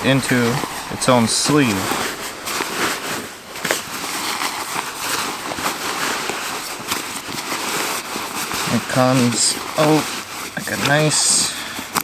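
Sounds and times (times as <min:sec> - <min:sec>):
fabric rustling with crackles: 0:00.0 - 0:12.0.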